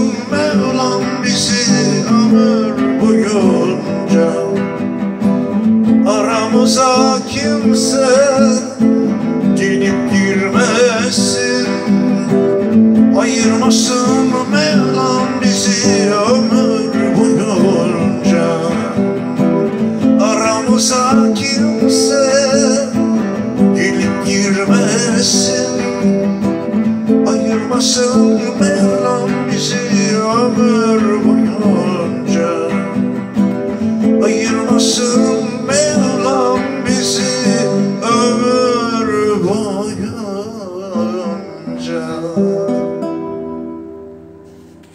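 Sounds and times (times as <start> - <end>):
man singing: 0.0 - 43.6
acoustic guitar strumming: 0.0 - 44.9.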